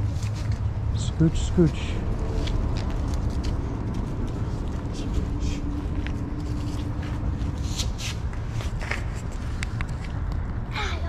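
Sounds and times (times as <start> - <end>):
low rumble: 0.0 - 9.2
scuffs and scrapes on concrete: 0.0 - 10.2.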